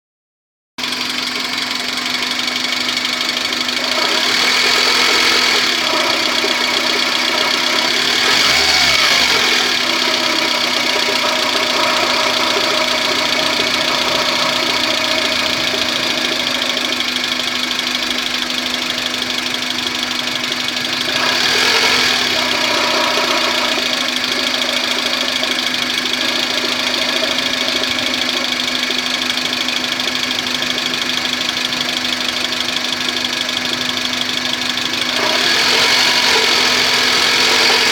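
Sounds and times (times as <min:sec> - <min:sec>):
petrol engine idling: 0:00.8 - 0:37.9.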